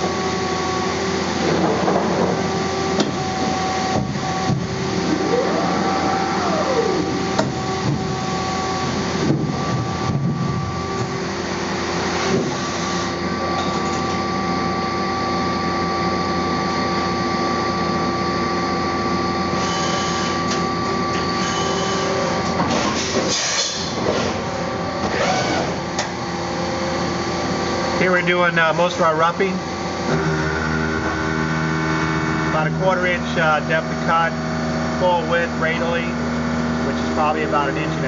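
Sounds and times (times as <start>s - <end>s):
machine whine: 0.0s - 38.0s.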